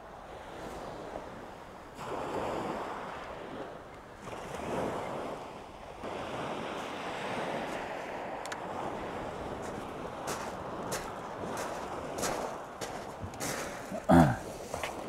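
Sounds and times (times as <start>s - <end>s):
waves breaking on shingle beach: 0.0s - 15.0s.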